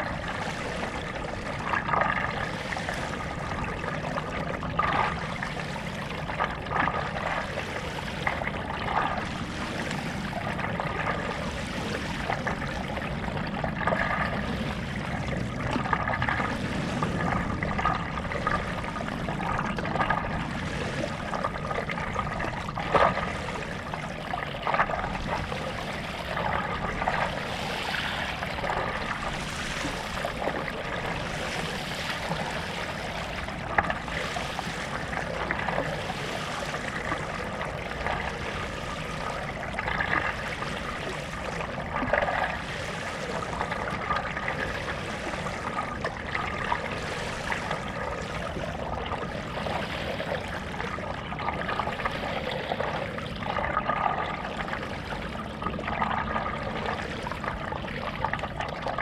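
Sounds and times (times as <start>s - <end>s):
paddle splashing through water: 0.0s - 59.0s
steady water noise: 0.0s - 59.0s.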